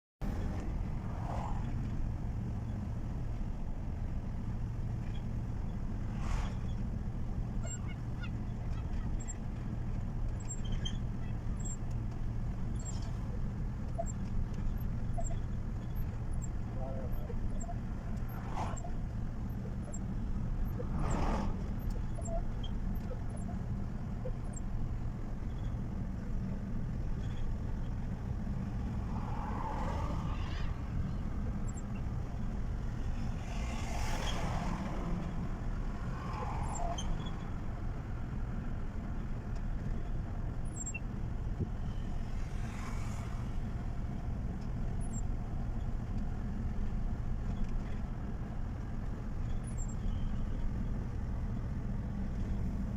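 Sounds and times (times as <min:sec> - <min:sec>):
truck engine and road rumble: 0:00.2 - 0:52.9.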